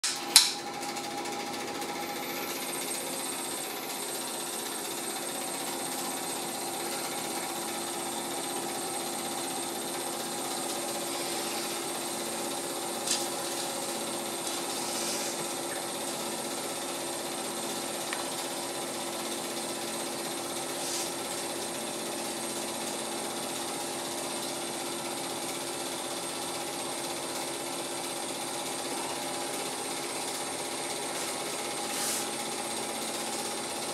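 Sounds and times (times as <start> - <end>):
film projector whirring: 0.0 - 33.9.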